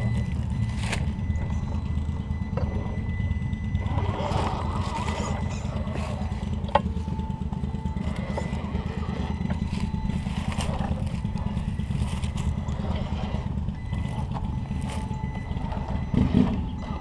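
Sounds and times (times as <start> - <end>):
low rumble: 0.0 - 17.0
toy car motor whining: 2.4 - 17.0.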